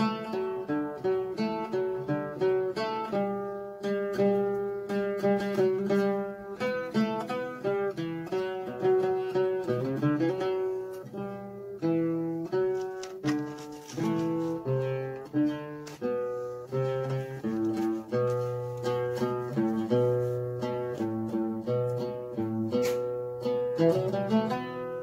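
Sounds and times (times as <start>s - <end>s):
oud plucked melody: 0.0s - 25.0s.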